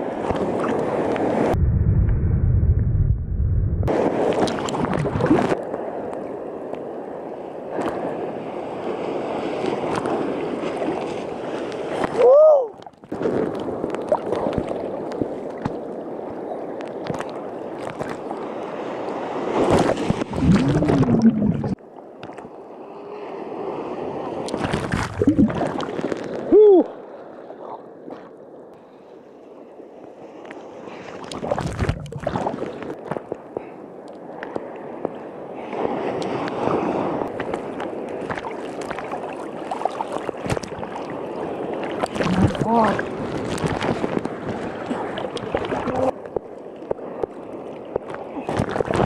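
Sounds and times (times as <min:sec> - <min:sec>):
churning water and surf: 0:00.0 - 0:01.7, 0:03.8 - 0:49.0.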